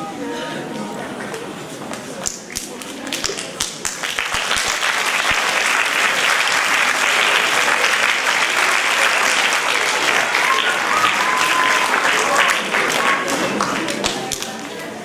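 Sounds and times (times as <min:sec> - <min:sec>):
audience applauding: 0:02.5 - 0:15.0.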